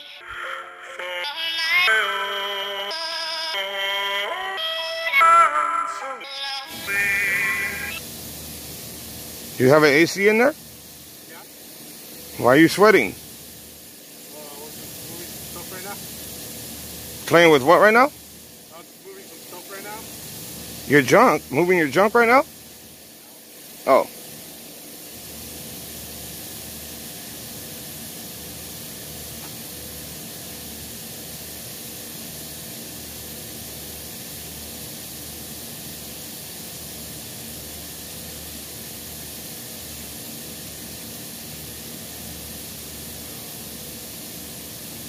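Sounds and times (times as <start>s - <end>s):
steady hissing noise: 0.0s - 45.0s.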